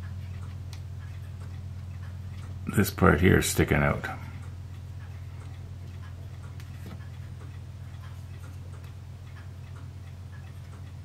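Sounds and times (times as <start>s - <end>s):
faint regular ticking: 0.0s - 11.0s
steady low hum: 0.0s - 11.0s.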